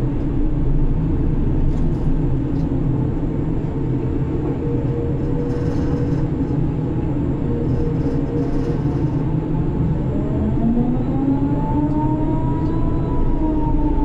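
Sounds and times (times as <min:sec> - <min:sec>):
crane machinery low rumble: 0:00.0 - 0:14.0
faint steady whine: 0:00.0 - 0:14.0.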